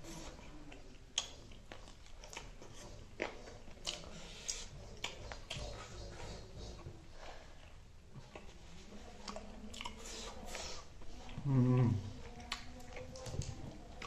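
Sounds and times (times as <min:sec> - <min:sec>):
chewing chicken wing: 0:00.0 - 0:14.0.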